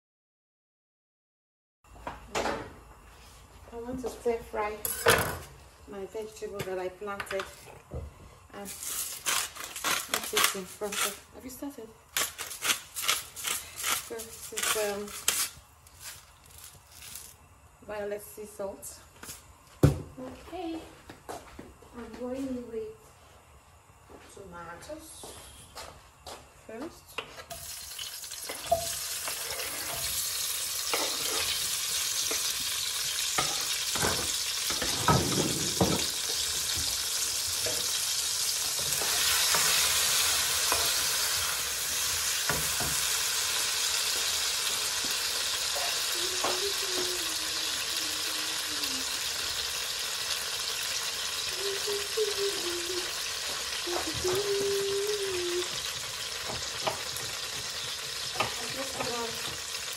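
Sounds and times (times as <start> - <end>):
tomatoes sizzling in a frying pan: 3.8 - 20.0, 26.7 - 59.9.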